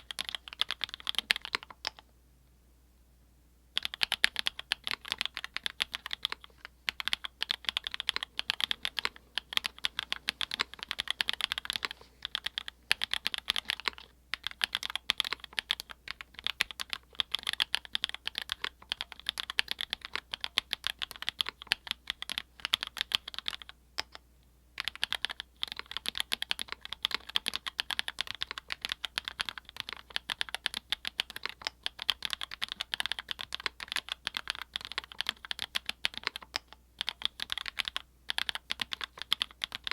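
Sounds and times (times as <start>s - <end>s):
mechanical keyboard typing clacks: 0.0s - 2.0s, 3.8s - 24.1s, 24.8s - 39.9s.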